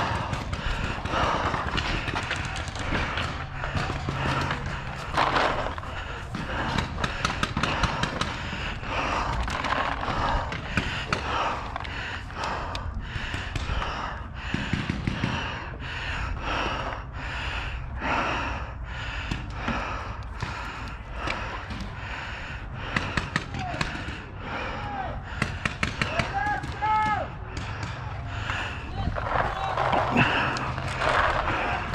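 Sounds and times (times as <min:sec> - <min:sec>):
person breathing hard: 0:00.0 - 0:31.9.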